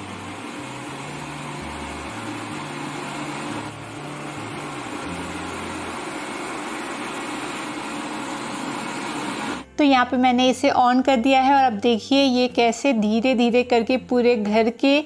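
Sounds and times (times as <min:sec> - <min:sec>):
low bass background music: 0:00.0 - 0:15.0.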